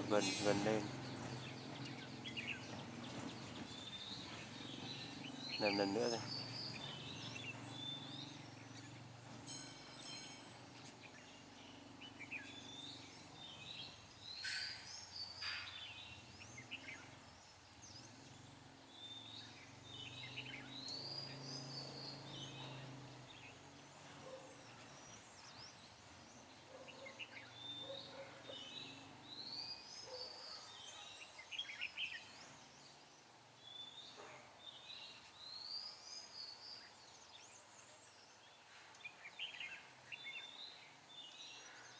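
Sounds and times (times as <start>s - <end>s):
birds singing: 0.0s - 41.9s.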